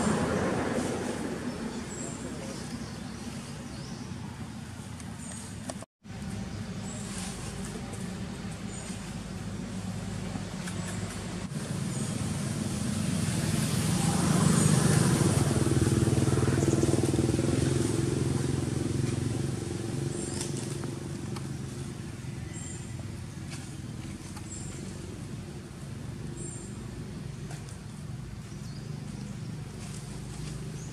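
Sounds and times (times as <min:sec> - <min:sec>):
vehicle engine passing by: 0:00.0 - 0:30.9.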